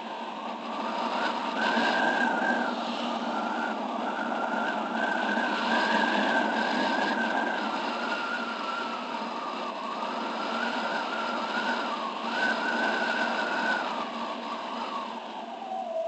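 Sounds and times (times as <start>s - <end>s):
motorbike engine whining: 0.0s - 16.0s
wind and road noise: 0.0s - 16.0s.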